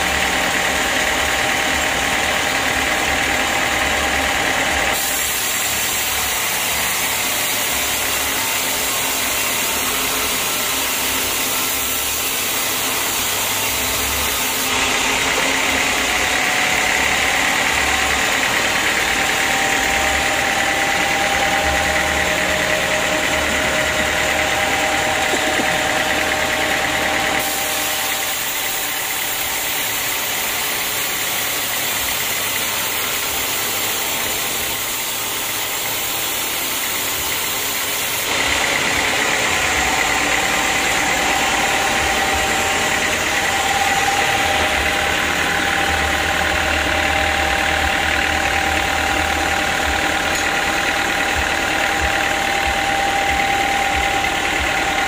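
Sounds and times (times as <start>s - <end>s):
band saw whining: 0.0s - 55.0s.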